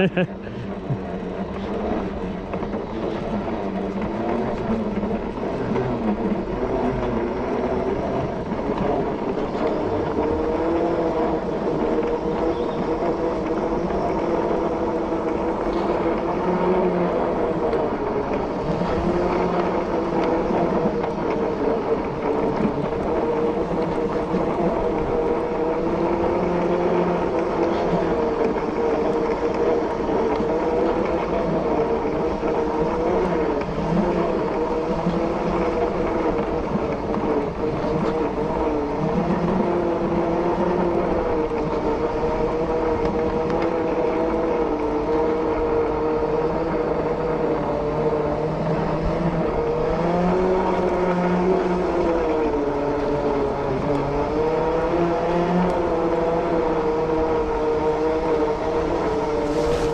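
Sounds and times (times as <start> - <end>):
electric motors whining: 0.0 - 59.9.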